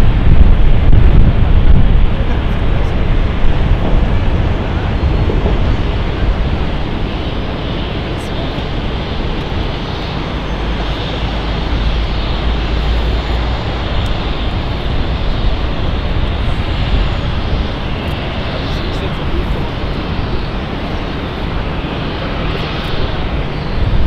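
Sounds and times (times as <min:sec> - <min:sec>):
jet engines droning: 0:00.0 - 0:24.0
wind on microphone: 0:00.0 - 0:24.0.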